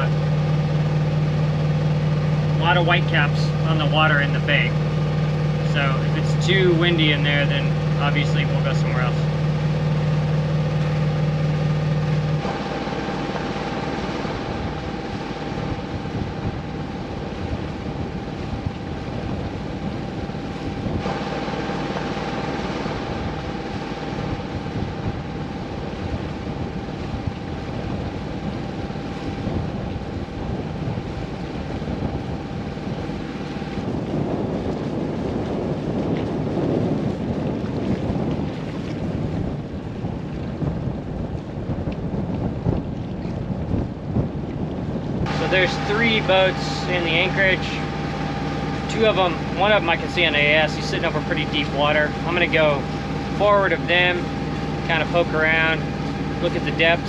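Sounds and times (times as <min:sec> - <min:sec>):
steady low hum: 0:00.0 - 0:57.0
water rushing along hull: 0:00.0 - 0:57.0
wind on microphone: 0:00.0 - 0:57.0.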